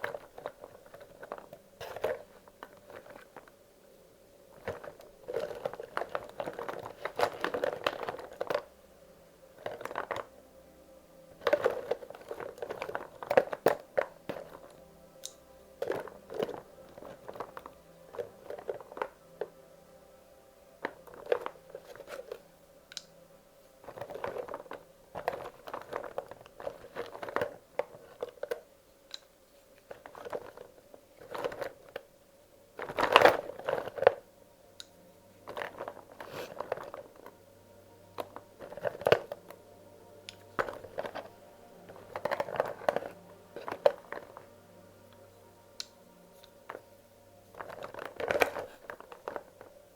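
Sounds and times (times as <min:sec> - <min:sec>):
crayons clattering together: 0:00.0 - 0:03.6, 0:04.5 - 0:08.7, 0:09.5 - 0:10.4, 0:11.3 - 0:19.6, 0:20.8 - 0:23.1, 0:23.8 - 0:32.2, 0:32.8 - 0:34.2, 0:35.4 - 0:37.4, 0:38.1 - 0:39.6, 0:40.2 - 0:49.9.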